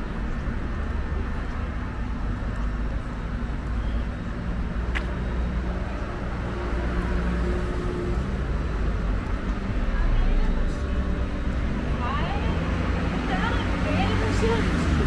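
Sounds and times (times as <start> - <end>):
traffic rumble: 0.0 - 15.0
vehicle engine: 0.0 - 15.0.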